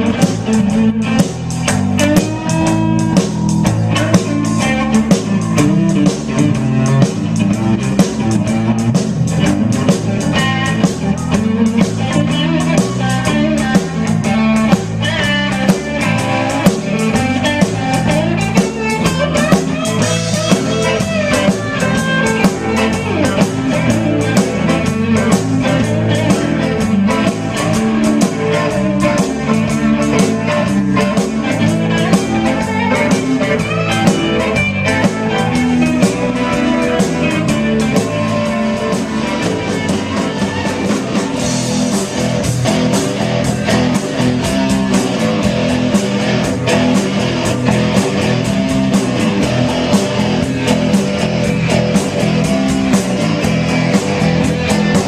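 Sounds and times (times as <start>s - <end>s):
drum kit steady beat: 0.0s - 55.0s
electric guitars: 0.0s - 55.0s.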